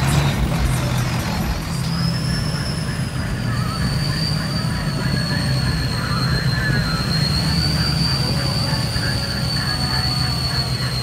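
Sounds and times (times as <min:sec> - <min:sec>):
pickup truck engine rumbling: 0:00.0 - 0:11.0
steady high-pitched whistle: 0:01.8 - 0:11.0.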